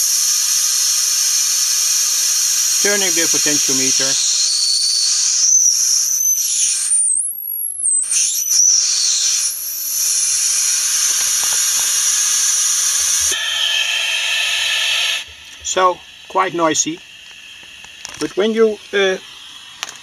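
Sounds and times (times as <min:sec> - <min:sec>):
shrill electronic oscillator scream: 0:00.0 - 0:16.9.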